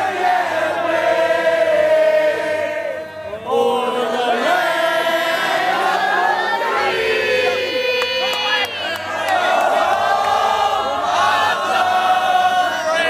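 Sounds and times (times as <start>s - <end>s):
crowd chanting in unison: 0.0s - 13.0s.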